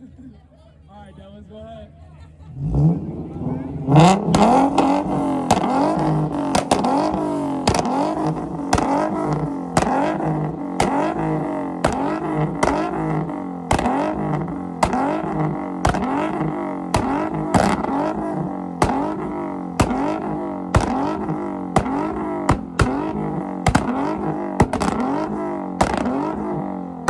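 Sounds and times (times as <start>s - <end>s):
car engine revving hard: 2.5s - 27.0s
exhaust pops: 4.1s - 27.0s.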